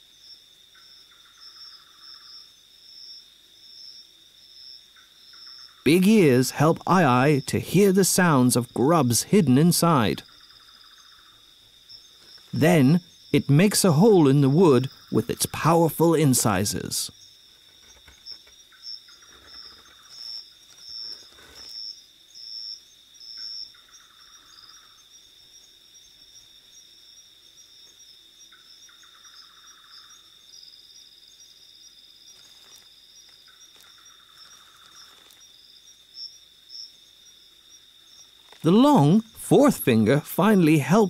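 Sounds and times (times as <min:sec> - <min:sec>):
insects trilling: 0:00.0 - 0:41.0
pulsing insect chirp: 0:00.0 - 0:41.0.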